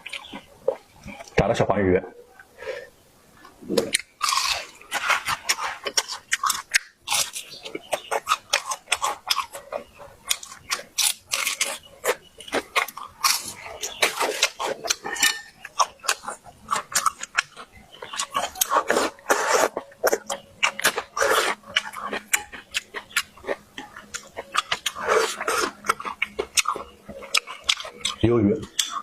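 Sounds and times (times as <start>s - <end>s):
crunching fried fish: 3.9s - 29.0s.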